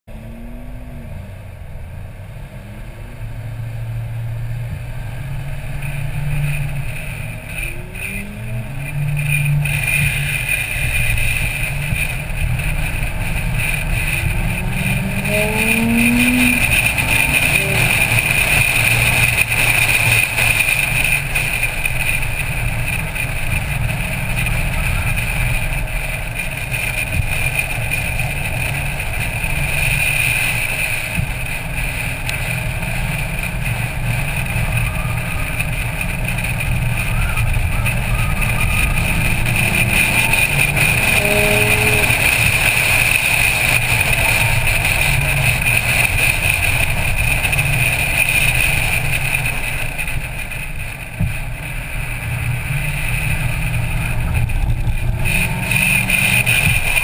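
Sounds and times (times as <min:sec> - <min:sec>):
car engine accelerating: 0:00.0 - 0:57.0
wind and road noise: 0:00.1 - 0:57.0.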